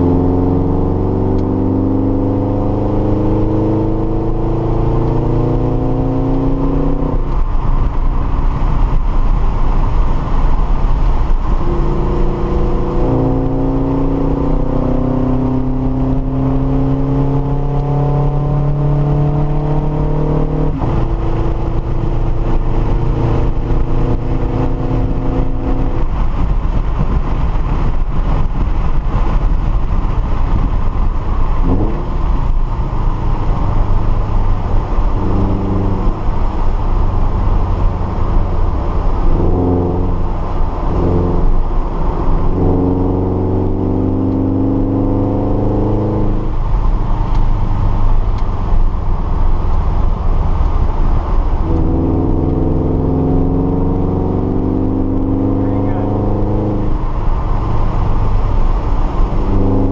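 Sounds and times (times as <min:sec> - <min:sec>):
car engine accelerating: 0:00.0 - 0:59.9
road noise: 0:00.0 - 0:59.9.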